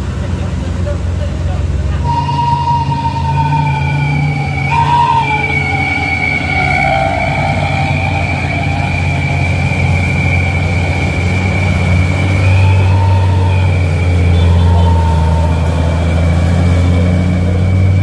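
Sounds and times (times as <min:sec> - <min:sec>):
diesel truck engine rumbling: 0:00.0 - 0:18.0
high-pitched whine: 0:01.8 - 0:18.0
short mid-pitched tones: 0:02.0 - 0:17.3.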